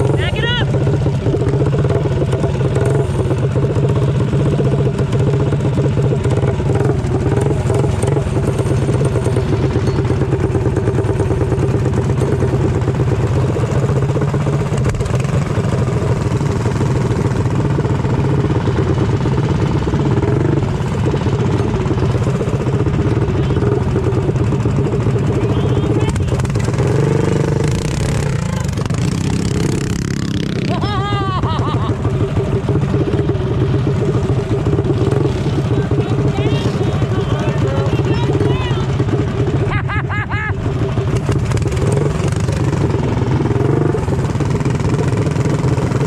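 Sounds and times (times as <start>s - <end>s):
mini bike engine running: 0.0s - 46.0s.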